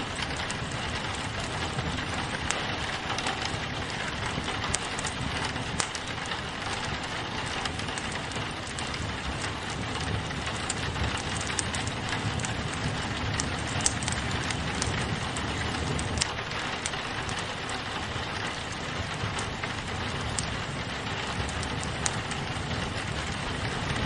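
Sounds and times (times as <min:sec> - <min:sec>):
rain pattering on a window: 0:00.0 - 0:24.0
sharp pops of fire: 0:00.0 - 0:24.0
wood fire crackling: 0:00.0 - 0:24.0.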